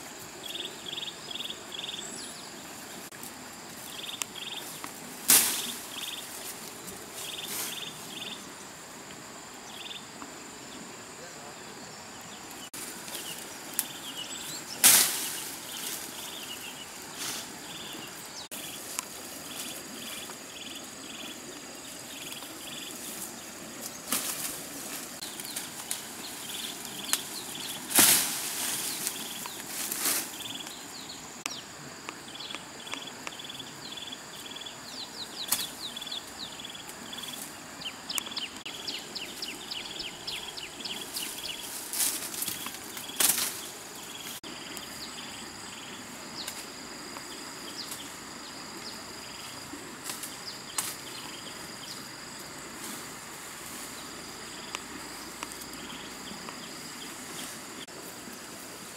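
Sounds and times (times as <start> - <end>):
insect chirping: 0.0 - 58.9
insects droning: 0.0 - 58.9
leafy branches rustling: 1.6 - 9.4, 12.5 - 31.4, 35.2 - 58.9.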